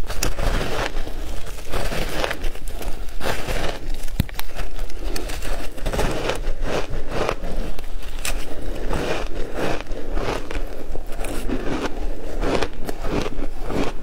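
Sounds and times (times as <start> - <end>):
ice being crunched: 0.0 - 14.0.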